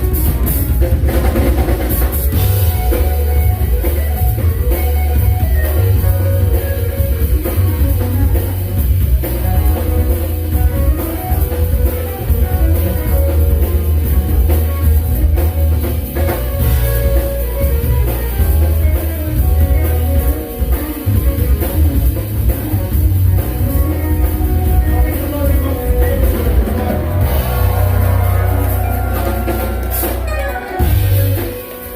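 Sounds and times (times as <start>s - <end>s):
drum kit: 0.0s - 31.9s
heavy bass: 0.0s - 31.9s
live band playing: 0.0s - 31.9s.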